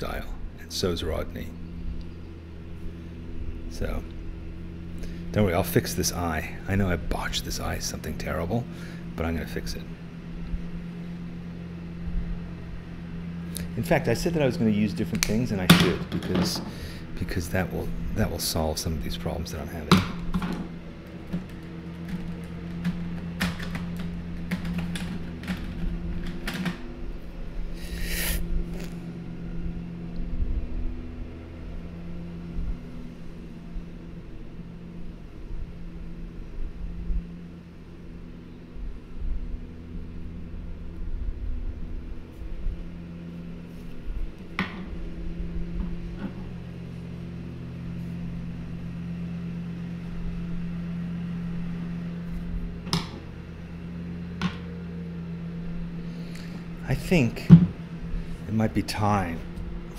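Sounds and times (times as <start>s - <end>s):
low machine hum: 0.0s - 59.9s.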